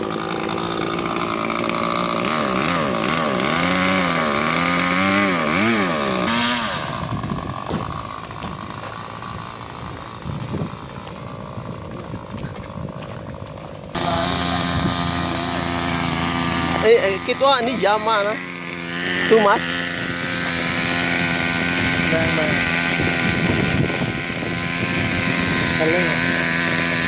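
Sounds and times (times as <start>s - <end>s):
small engine revving: 0.0s - 27.0s.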